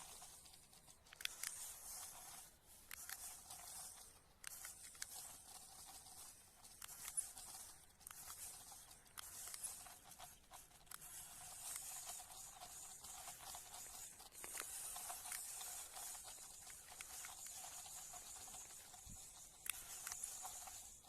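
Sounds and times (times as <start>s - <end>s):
scattered clicks: 0.0s - 21.0s
small electric motor whirring: 0.0s - 21.0s.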